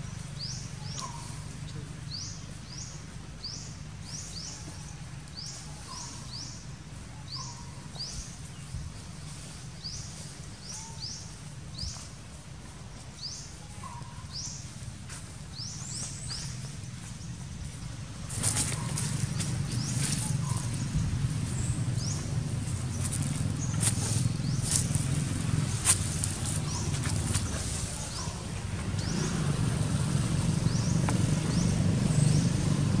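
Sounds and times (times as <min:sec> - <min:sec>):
bird chirping: 0:00.1 - 0:08.8, 0:09.8 - 0:12.1, 0:12.8 - 0:14.8, 0:15.5 - 0:29.8.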